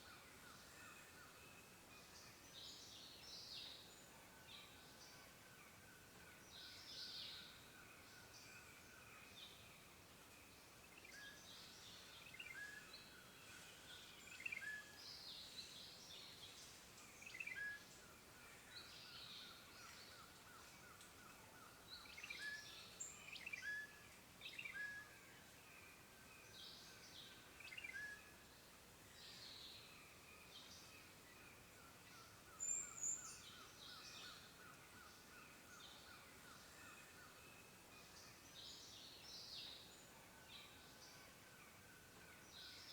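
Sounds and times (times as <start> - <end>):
soft steady hiss: 0.0 - 42.9.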